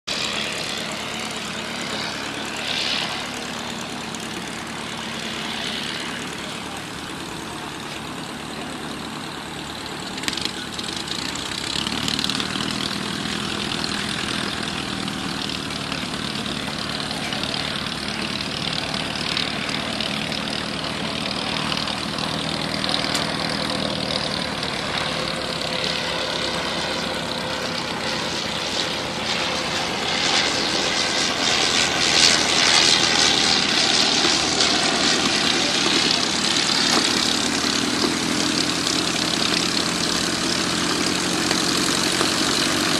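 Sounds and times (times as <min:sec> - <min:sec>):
model aircraft motor and propeller: 0:00.1 - 0:42.9.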